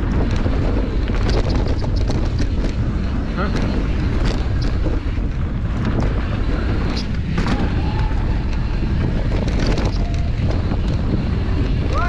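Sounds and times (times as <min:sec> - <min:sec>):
bike rattling over bumps: 0:00.0 - 0:12.0
tyres rolling on dirt: 0:00.0 - 0:12.0
wind buffeting microphone: 0:00.0 - 0:12.0.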